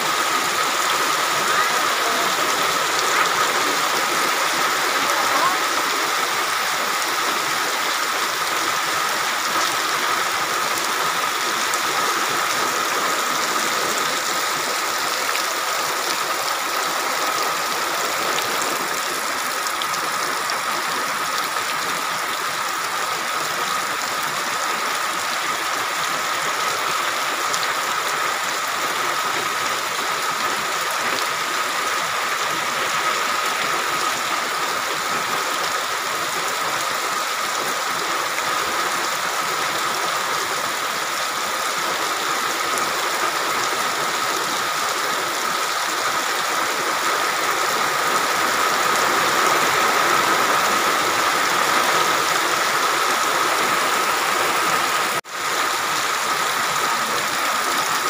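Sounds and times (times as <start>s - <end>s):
heavy rain falling: 0.0s - 58.0s
water running over ground: 0.0s - 58.0s.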